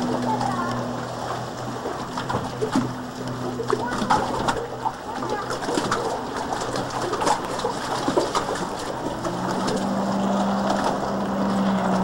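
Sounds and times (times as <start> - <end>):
jet ski engine drone: 0.0 - 12.0
water splashes: 0.0 - 12.0.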